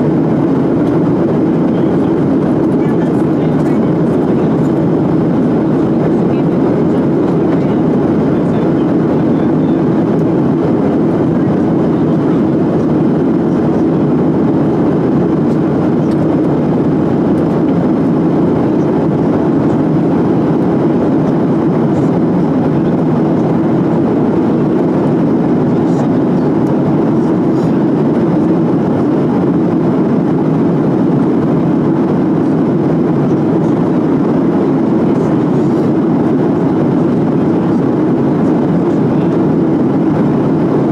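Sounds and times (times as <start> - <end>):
jet airliner cabin noise: 0.0 - 40.9.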